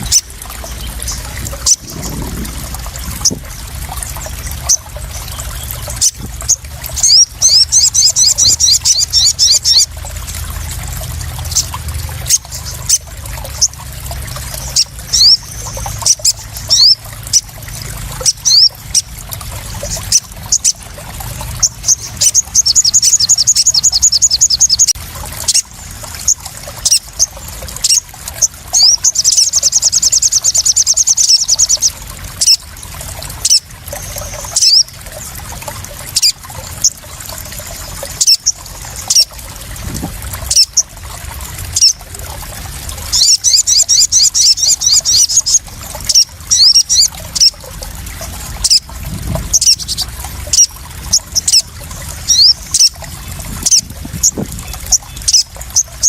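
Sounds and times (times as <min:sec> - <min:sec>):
water dripping: 0:00.0 - 0:56.0
water splashing and trickling: 0:00.0 - 0:56.0.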